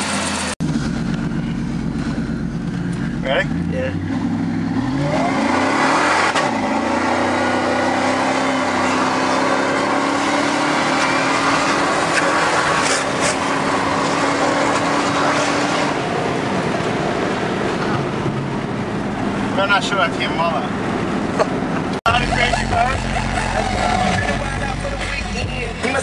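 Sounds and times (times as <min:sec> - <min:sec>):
engine accelerating hard: 0:00.0 - 0:26.0.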